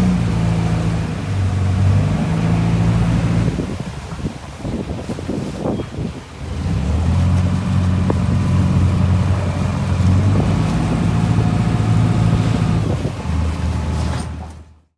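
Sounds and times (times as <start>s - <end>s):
ferry engine low drone: 0.0s - 3.8s, 6.3s - 14.9s.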